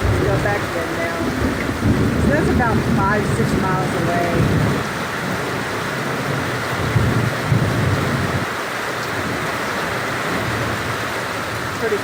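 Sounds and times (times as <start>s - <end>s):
distant thunder rumble: 0.0s - 12.0s
heavy rain pouring: 0.0s - 12.0s.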